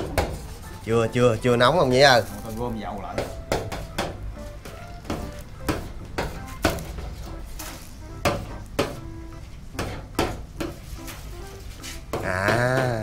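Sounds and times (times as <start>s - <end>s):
oil sizzling: 0.0s - 12.5s.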